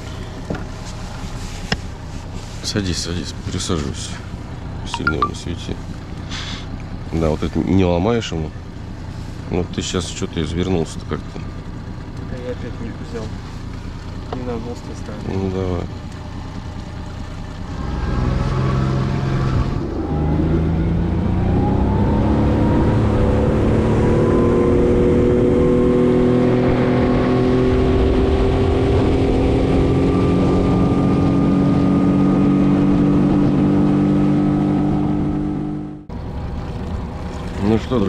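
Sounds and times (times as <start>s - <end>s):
boat outboard motor running: 0.0s - 34.2s, 35.8s - 38.0s.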